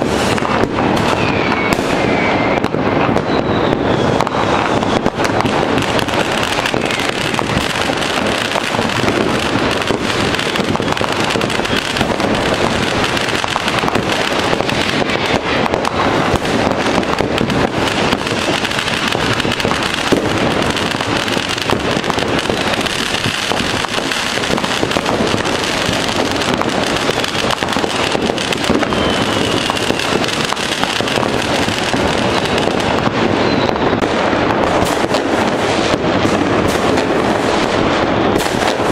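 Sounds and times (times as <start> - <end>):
firework whistle: 0.0 - 38.9
fireworks crackling: 0.0 - 38.9.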